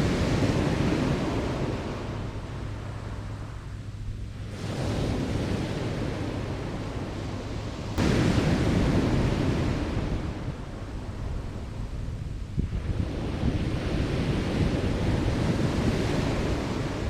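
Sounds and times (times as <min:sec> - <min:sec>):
surf washing on beach: 0:00.0 - 0:03.7, 0:04.3 - 0:17.0
wind buffeting microphone: 0:00.0 - 0:17.0.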